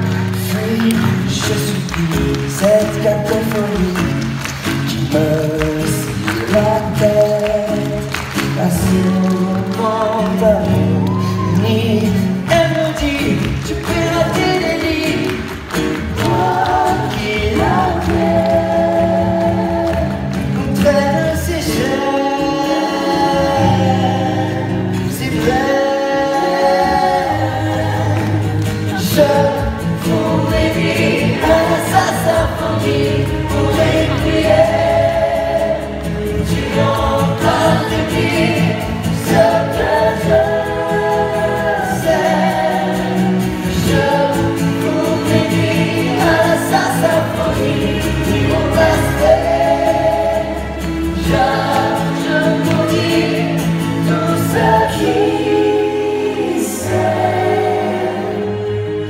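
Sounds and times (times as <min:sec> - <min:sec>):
chorus of voices singing: 0:00.0 - 0:59.0
strummed acoustic guitar: 0:00.0 - 0:59.0.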